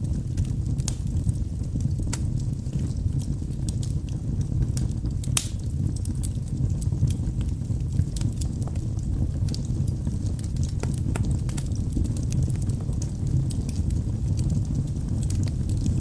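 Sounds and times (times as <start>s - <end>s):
fire flames rumbling: 0.0s - 16.0s
logs crackling and popping: 0.0s - 16.0s.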